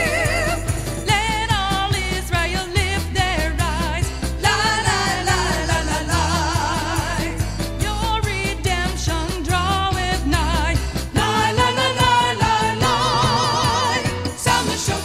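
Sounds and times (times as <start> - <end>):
band with bass and drums: 0.0 - 15.0
person singing with vibrato: 0.0 - 15.0.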